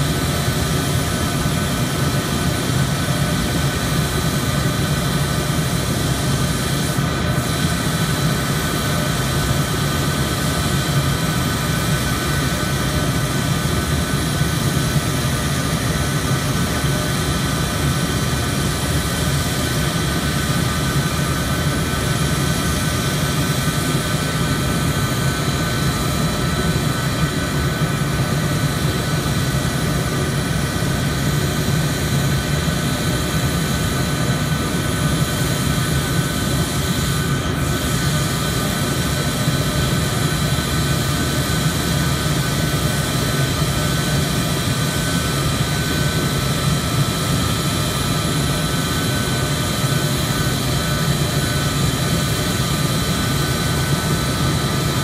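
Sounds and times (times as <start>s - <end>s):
jet turbine whine: 0.0s - 55.0s
low jet engine rumble: 0.0s - 55.0s.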